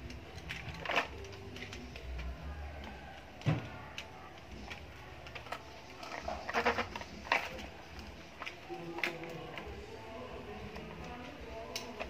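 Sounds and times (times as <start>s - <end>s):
plastic toys clicking on stone: 0.0s - 12.0s.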